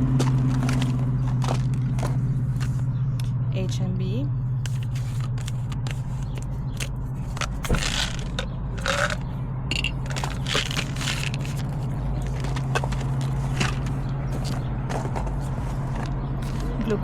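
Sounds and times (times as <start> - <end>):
plastic bottles clicking and rattling: 0.0 - 2.8, 4.7 - 17.0.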